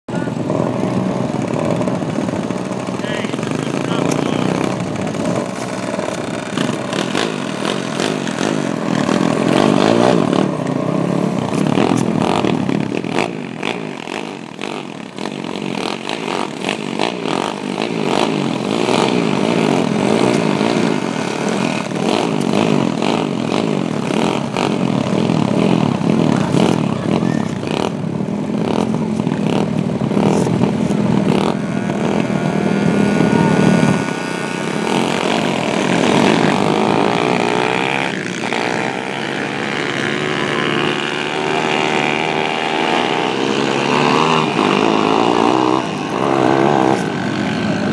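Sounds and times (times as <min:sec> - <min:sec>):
small engines idling and revving: 0:00.0 - 0:47.9.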